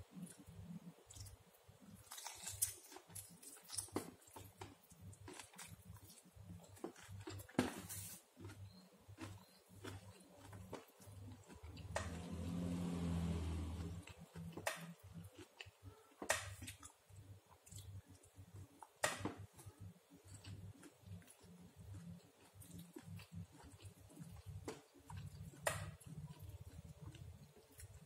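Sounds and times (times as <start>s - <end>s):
low steady hum: 0.0s - 28.0s
wet chewing and mouth noises: 0.1s - 12.6s, 13.8s - 28.0s.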